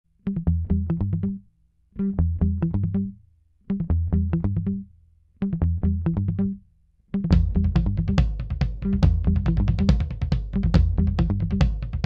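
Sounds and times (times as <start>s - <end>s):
electronic music with plucked notes: 0.2s - 12.0s.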